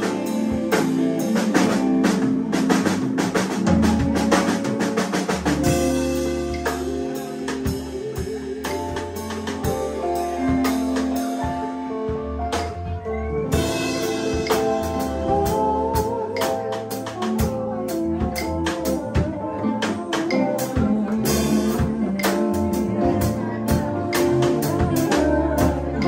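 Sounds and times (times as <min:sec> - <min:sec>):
drum kit beat: 0:00.0 - 0:26.0
live band playing: 0:00.0 - 0:26.0.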